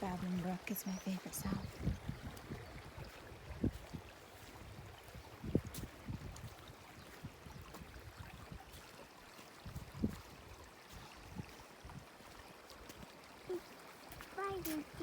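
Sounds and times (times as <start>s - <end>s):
babbling brook: 0.0s - 15.0s.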